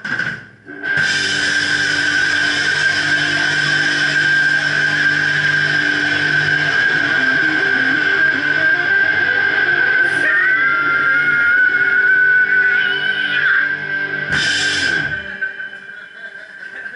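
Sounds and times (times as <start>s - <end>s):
bass guitar: 0.0s - 15.8s
distorted electric guitars: 0.0s - 16.9s
steady high whine: 0.0s - 16.9s.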